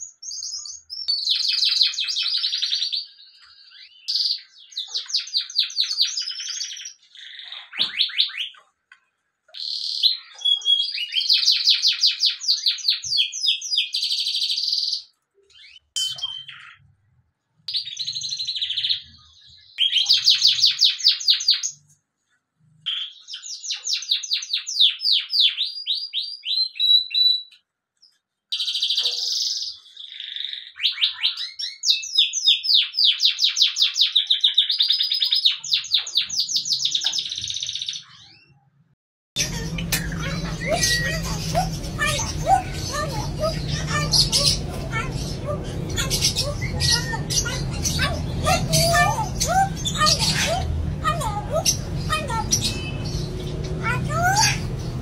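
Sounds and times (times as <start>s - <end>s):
canary singing trills: 0.0s - 8.7s, 9.5s - 17.0s, 17.7s - 21.9s, 22.9s - 27.6s, 28.5s - 38.6s, 39.4s - 55.0s.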